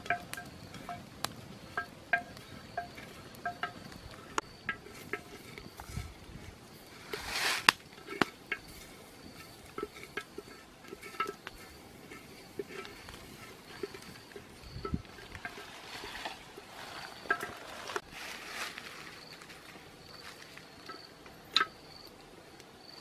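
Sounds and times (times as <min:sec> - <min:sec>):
fire hissing: 0:00.0 - 0:23.0
wood fire crackling: 0:00.0 - 0:23.0.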